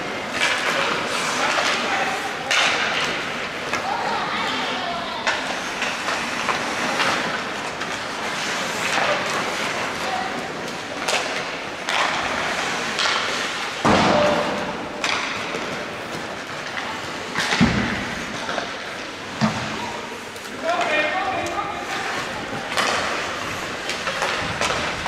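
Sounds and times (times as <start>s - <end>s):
skates scraping ice: 0.0s - 25.0s
sticks and puck clacking: 0.0s - 25.0s.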